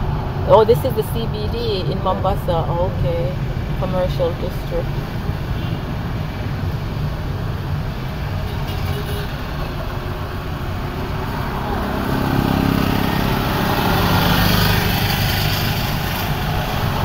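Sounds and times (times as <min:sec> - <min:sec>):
car engine and tyre rumble: 0:00.0 - 0:17.0
engine hum: 0:00.0 - 0:17.0.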